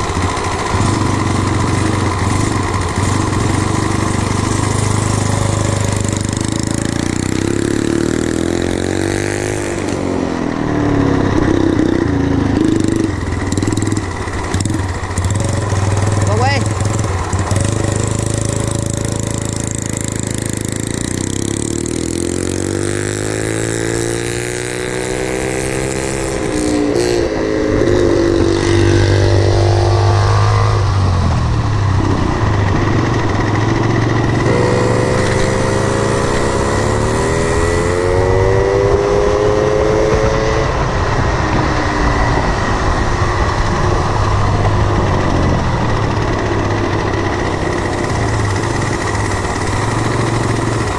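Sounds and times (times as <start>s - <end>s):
moped engine revving: 0.0s - 50.9s.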